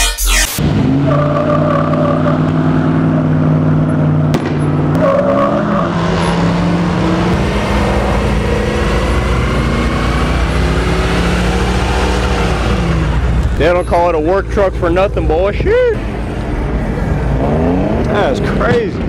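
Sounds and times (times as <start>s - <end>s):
engine revving high: 0.5s - 13.7s, 16.5s - 18.8s.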